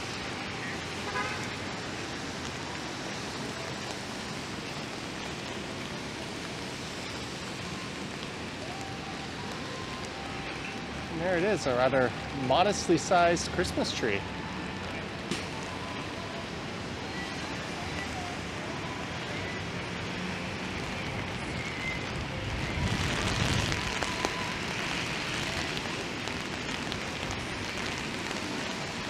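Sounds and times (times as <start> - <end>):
rain hissing: 0.0 - 29.0
traffic on wet pavement: 0.0 - 29.0.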